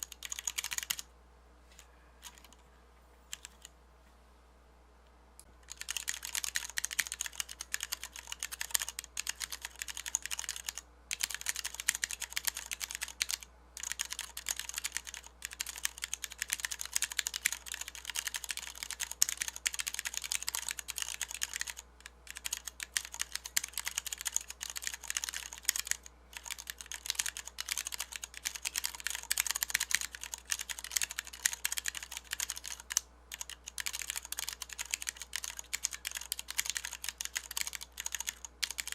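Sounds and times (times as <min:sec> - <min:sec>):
mechanical keyboard typing: 0:00.0 - 0:01.1, 0:02.2 - 0:02.6, 0:03.3 - 0:03.7, 0:05.6 - 0:38.9.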